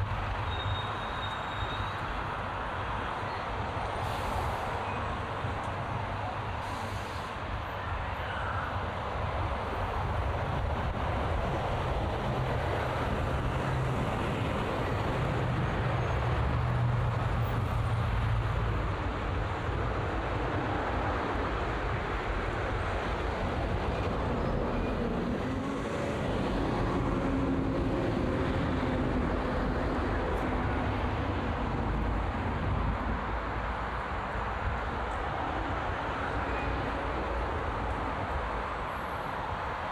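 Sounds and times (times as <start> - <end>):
heavy vehicle engine hum: 0.0 - 39.9
road traffic engines and tyres: 0.0 - 39.9.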